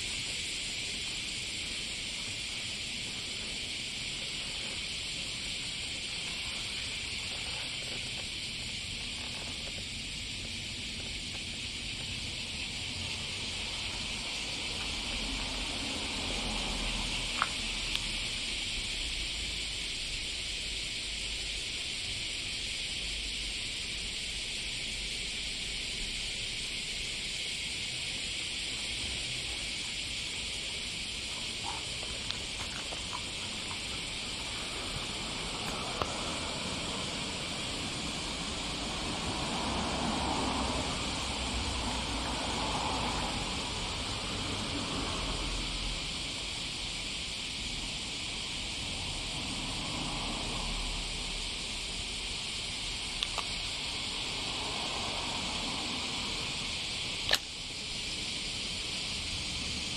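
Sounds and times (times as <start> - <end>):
steady high-pitched hiss: 0.0 - 59.9.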